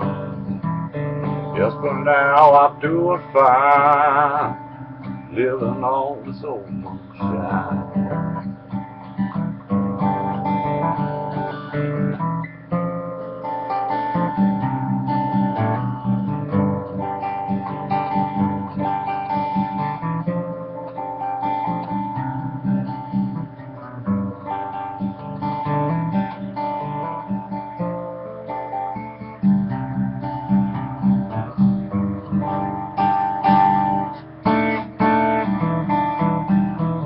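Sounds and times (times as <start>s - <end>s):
acoustic guitar folk instrumental: 0.0s - 37.0s.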